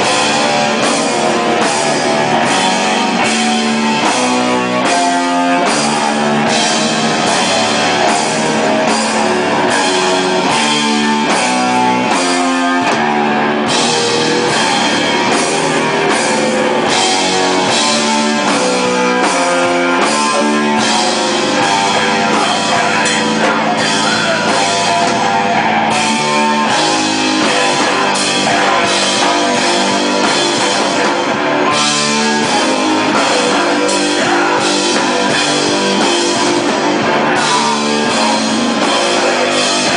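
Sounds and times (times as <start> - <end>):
distorted electric guitar chords: 0.0 - 39.9
pounding drum kit: 0.0 - 39.9.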